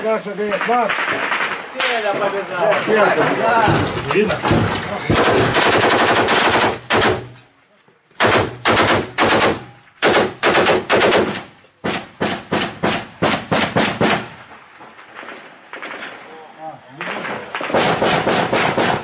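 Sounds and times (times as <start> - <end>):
assault rifles firing: 0.5 - 7.4, 8.2 - 19.0.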